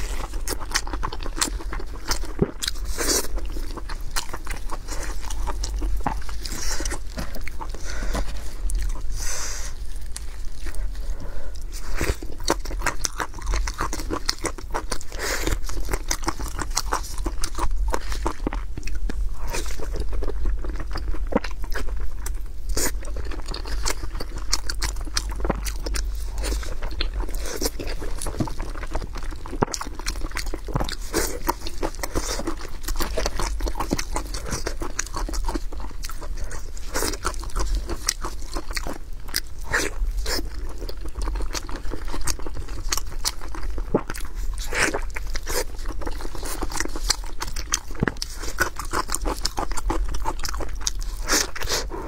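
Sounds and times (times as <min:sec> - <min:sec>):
chewing with crunchy clicks: 0:00.0 - 0:52.0.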